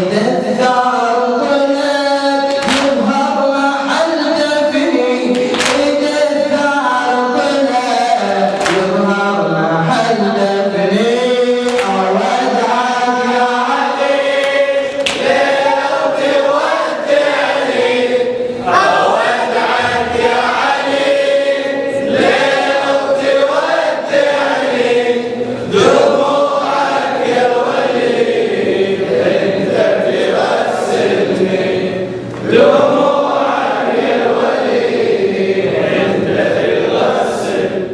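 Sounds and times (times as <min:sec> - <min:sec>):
men chanting in unison: 0:00.0 - 0:37.9.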